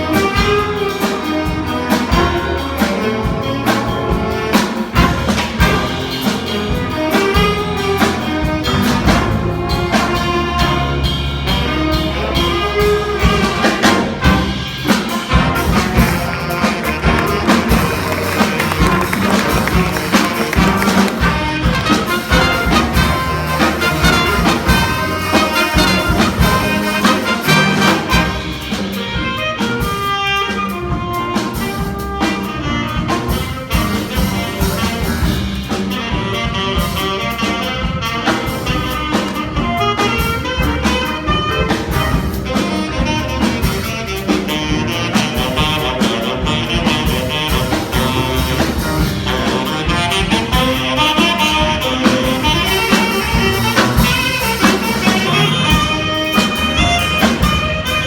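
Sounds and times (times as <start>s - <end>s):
brass melody over a beat: 0.0s - 58.0s.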